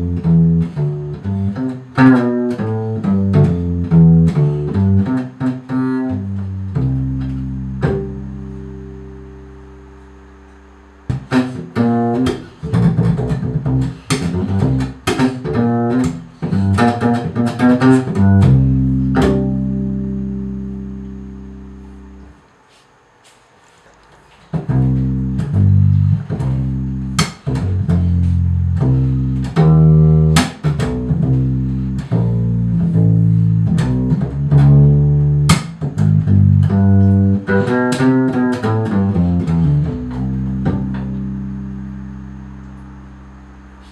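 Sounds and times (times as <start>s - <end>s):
plucked double bass: 0.0s - 22.4s, 24.2s - 43.9s.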